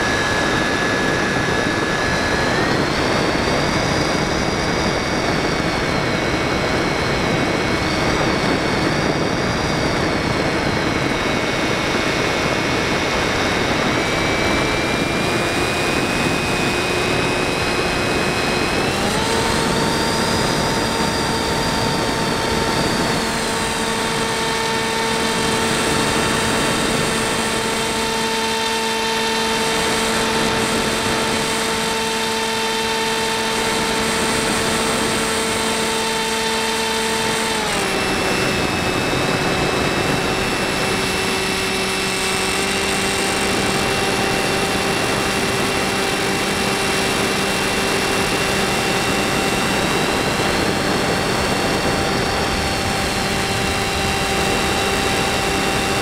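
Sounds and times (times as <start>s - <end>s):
electric motor and propeller whining: 0.0s - 56.0s.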